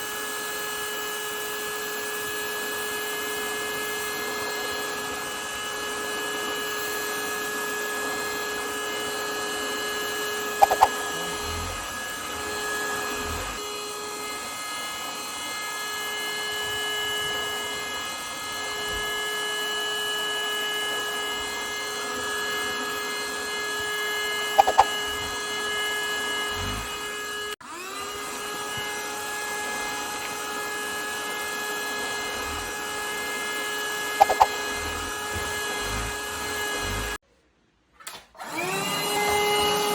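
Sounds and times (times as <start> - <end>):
hand-held vacuum cleaner whine: 0.0 - 37.2, 38.0 - 39.9.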